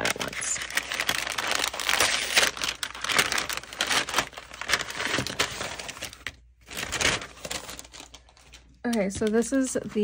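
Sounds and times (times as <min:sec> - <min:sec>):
paper bag crinkling: 0:00.0 - 0:10.0.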